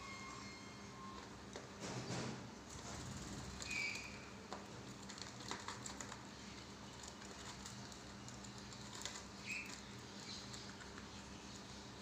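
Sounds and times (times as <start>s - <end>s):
birds clicking and tapping: 1.2s - 12.0s.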